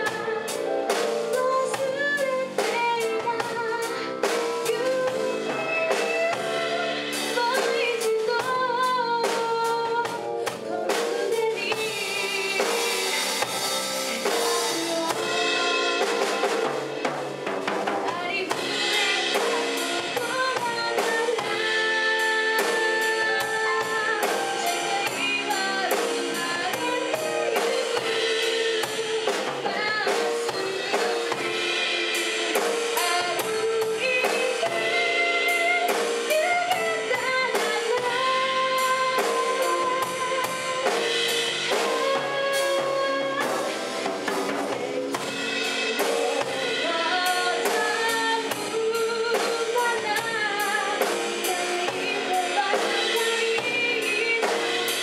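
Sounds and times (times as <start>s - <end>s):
woman singing into microphone: 0.0s - 13.5s, 14.1s - 16.7s, 17.9s - 44.1s, 45.2s - 55.0s
acoustic drum kit: 0.0s - 55.0s.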